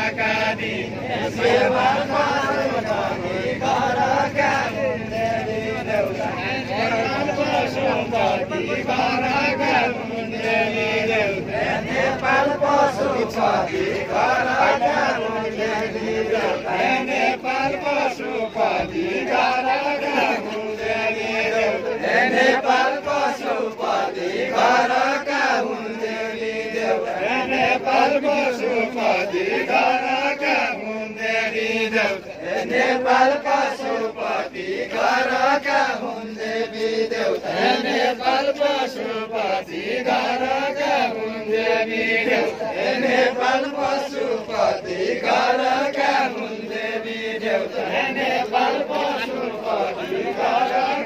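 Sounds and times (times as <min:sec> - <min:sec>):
men singing unaccompanied: 0:00.0 - 0:51.0.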